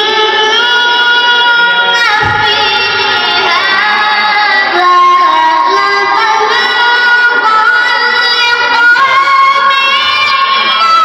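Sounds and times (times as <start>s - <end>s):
boy reciting melodically: 0.0s - 11.0s.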